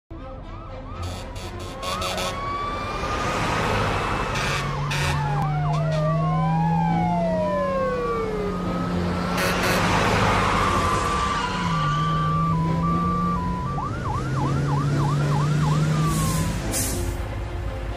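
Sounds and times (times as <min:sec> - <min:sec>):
fire engine siren wailing: 0:00.3 - 0:17.1.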